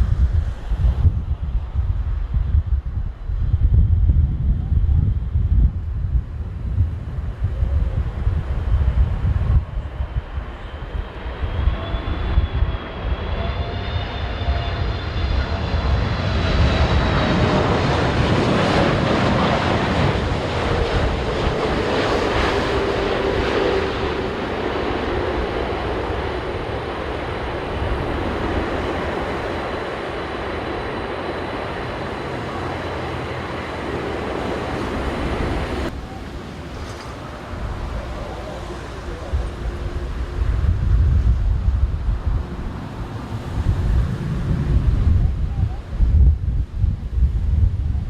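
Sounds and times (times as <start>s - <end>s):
jet engines passing overhead: 0.0s - 48.0s
wind buffeting microphone: 0.0s - 48.0s.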